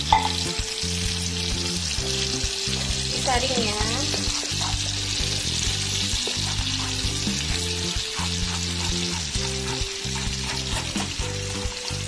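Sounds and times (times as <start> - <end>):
background music with low notes: 0.0 - 12.0
food sizzling in a frying pan: 0.0 - 12.0.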